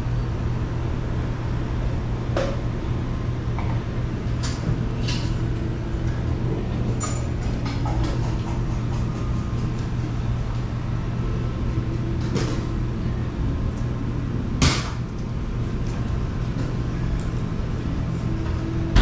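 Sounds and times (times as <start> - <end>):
low hum of shop equipment: 0.0 - 19.0.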